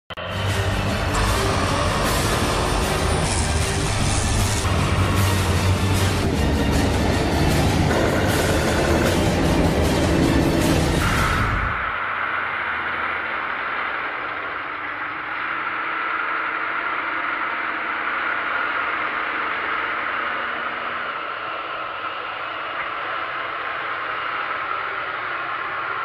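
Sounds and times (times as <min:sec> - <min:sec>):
tractor diesel engine droning: 0:00.1 - 0:26.0.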